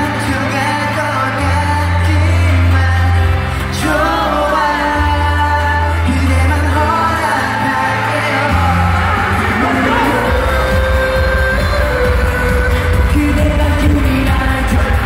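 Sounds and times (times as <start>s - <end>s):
pop song sung live in arena: 0.0s - 15.0s.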